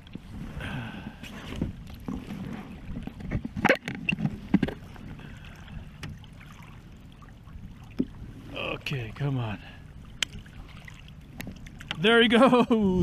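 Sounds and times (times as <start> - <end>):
water sloshing against boat: 0.0 - 13.0.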